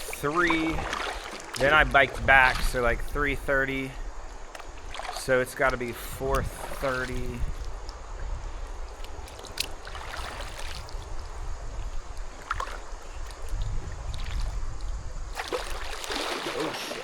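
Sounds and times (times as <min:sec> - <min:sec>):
paddle splashes: 0:00.0 - 0:17.0
running water: 0:00.0 - 0:17.0
rush of splashing water: 0:00.0 - 0:17.0.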